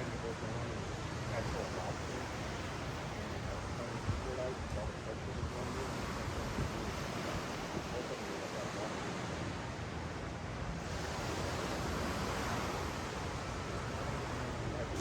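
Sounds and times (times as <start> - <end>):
faint distant voices: 0.0 - 15.0
ocean waves on a beach: 0.0 - 15.0.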